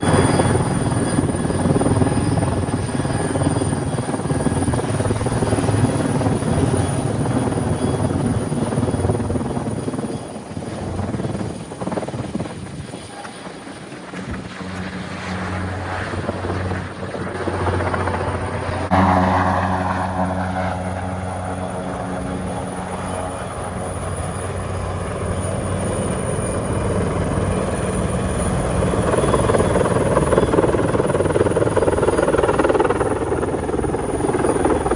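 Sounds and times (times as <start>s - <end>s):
helicopter rotor and engine whine: 0.0s - 34.9s.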